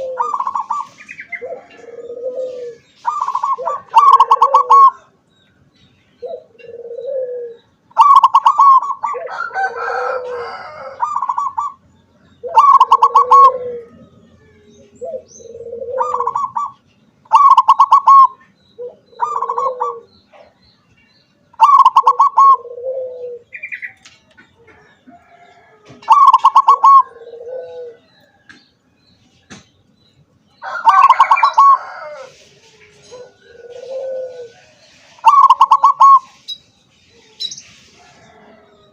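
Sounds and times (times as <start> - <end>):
dove singing staccato notes and coo: 0.0 - 38.9.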